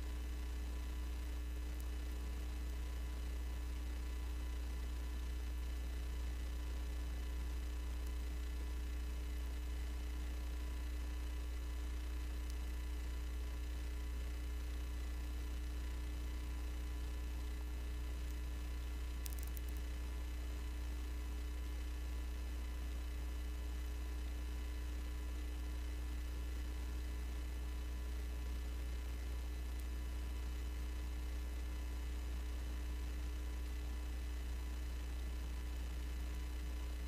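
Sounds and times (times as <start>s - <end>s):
electrical mains hum: 0.0s - 37.0s
faint constant tones: 0.0s - 37.0s.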